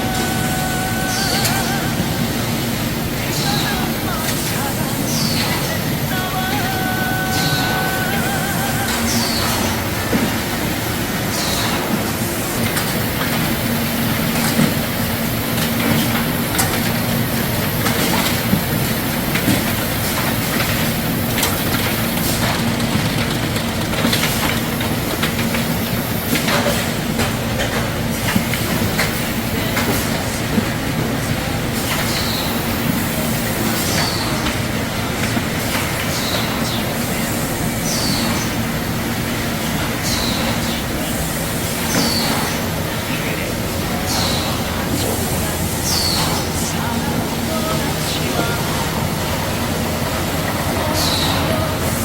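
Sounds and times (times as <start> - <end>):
conveyors and rollers clattering: 0.0 - 52.0.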